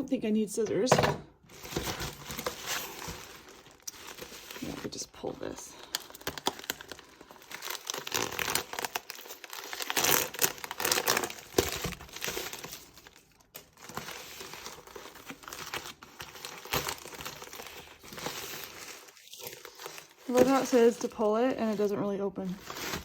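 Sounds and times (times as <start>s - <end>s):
package wrapping crinkling: 1.5s - 23.0s.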